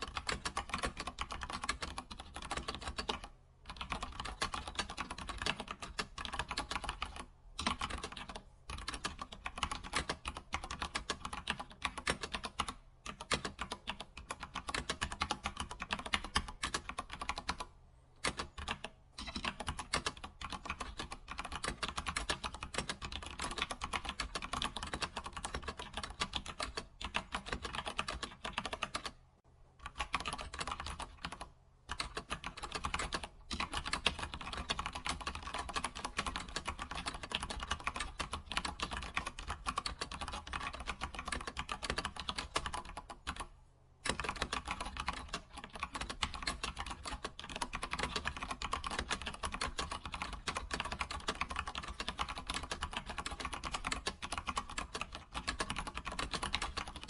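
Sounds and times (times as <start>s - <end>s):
fast keyboard typing: 0.0s - 29.2s, 29.8s - 57.0s.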